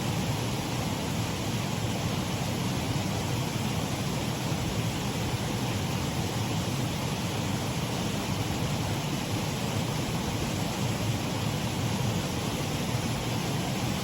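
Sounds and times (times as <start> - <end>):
water rushing over waterfall: 0.0 - 14.0.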